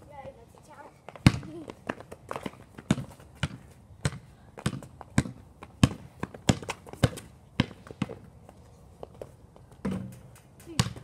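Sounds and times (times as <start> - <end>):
basketball dribbled on pavement: 0.1 - 11.0.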